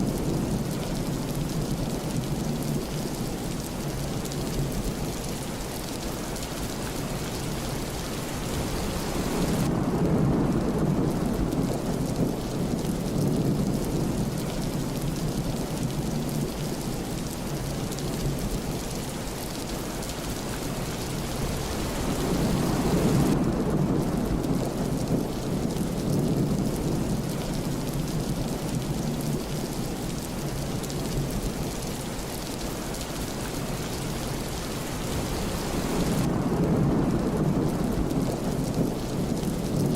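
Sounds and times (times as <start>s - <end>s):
low rolls of thunder: 0.0s - 39.9s
steady rain: 0.0s - 39.9s.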